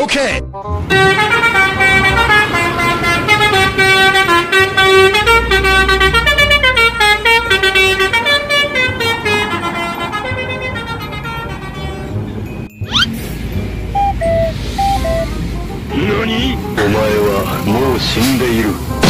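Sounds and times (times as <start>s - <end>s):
multi-tone bus horn tune: 0.6s - 19.0s.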